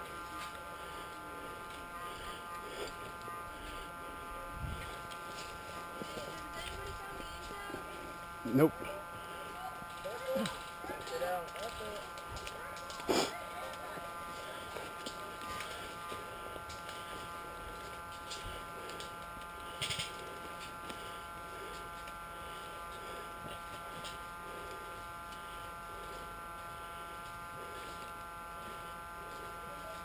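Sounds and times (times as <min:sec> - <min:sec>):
steady electrical buzz: 0:00.0 - 0:30.0.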